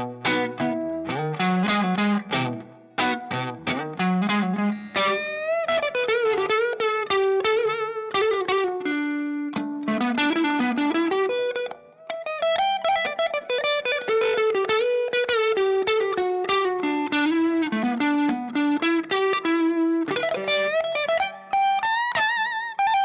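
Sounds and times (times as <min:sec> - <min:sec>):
electric guitar lead line: 0:00.0 - 0:23.0.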